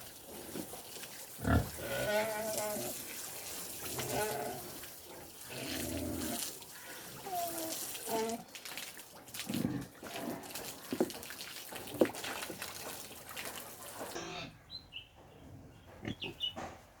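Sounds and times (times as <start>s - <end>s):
water running and splashing: 0.0s - 14.2s.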